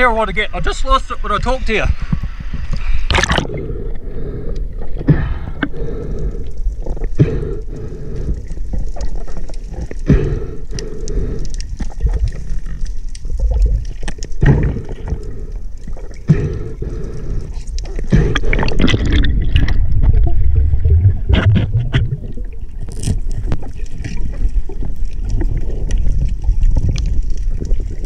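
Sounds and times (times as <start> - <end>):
muffled underwater rumble: 0.0 - 28.0
bubbling crackles: 2.0 - 28.0.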